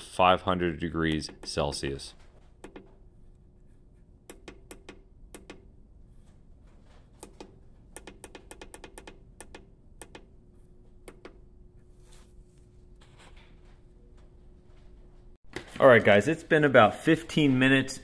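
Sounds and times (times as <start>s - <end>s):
faint steady hum: 0.0s - 15.4s.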